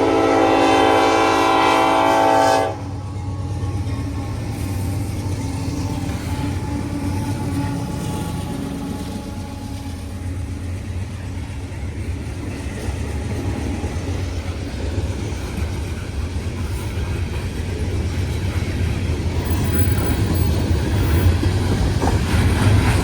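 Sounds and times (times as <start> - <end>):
freight train rumbling by: 0.0 - 23.0.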